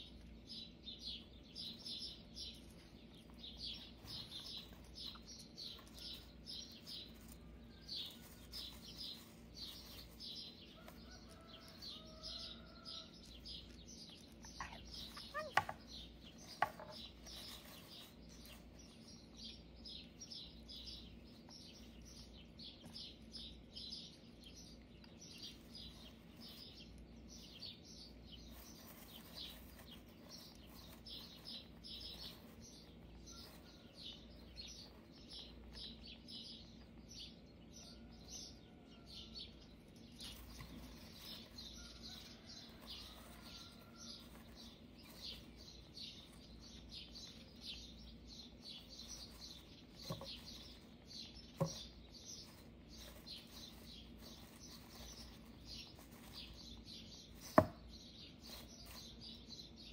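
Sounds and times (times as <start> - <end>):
small bird chirping: 0.0 - 59.9.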